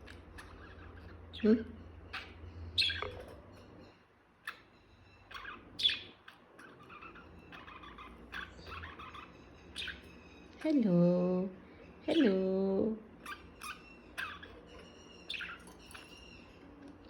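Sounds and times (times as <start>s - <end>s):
budgerigars chirping: 0.0s - 10.6s, 13.1s - 17.0s
budgerigars warbling chatter: 0.0s - 10.6s, 13.1s - 16.8s.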